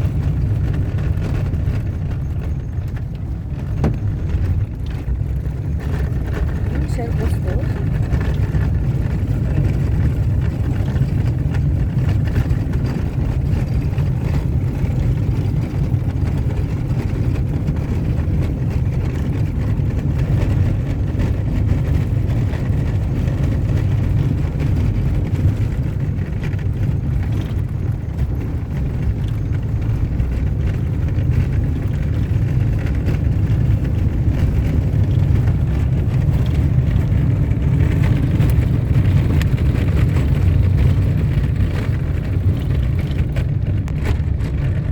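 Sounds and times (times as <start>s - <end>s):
car driving on dirt road: 0.0s - 44.9s.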